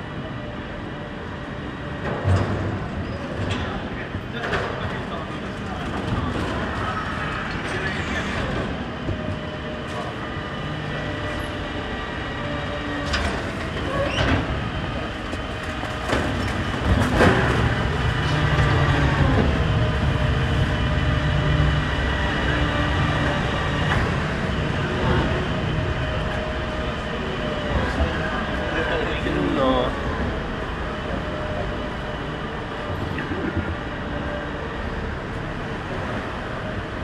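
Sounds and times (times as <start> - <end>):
train rumbling and whining: 0.0 - 37.0.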